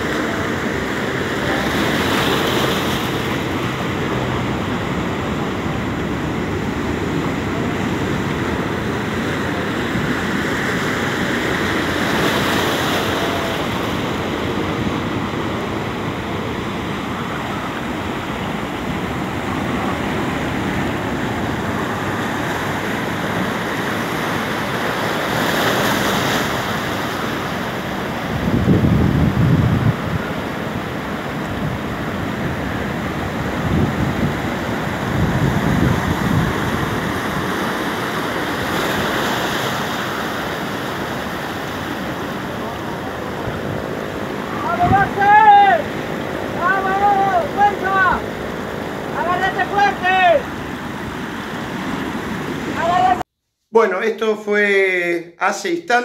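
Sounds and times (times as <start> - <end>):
surf crashing on rocks: 0.0 - 53.3.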